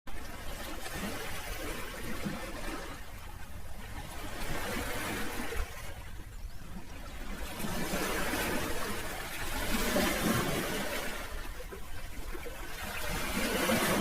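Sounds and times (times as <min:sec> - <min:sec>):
sea waves washing ashore: 0:00.1 - 0:14.0.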